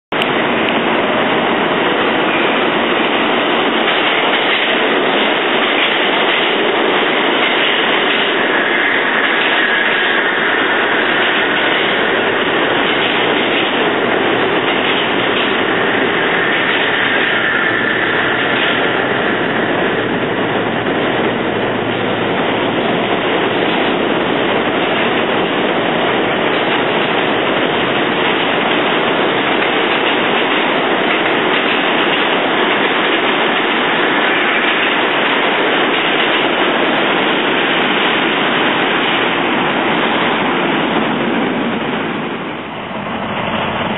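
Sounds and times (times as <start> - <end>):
subway train wheels rumbling: 0.1 - 43.9.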